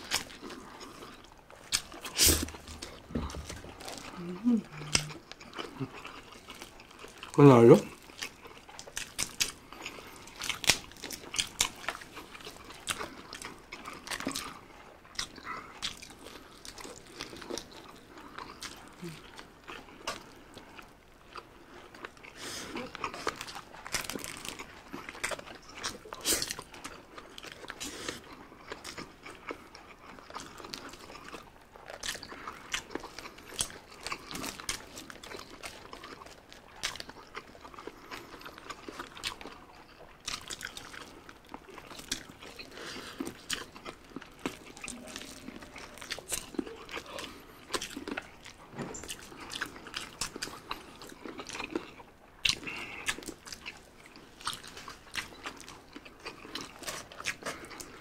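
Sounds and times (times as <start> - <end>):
chewing and lip smacks: 0.0 - 58.0.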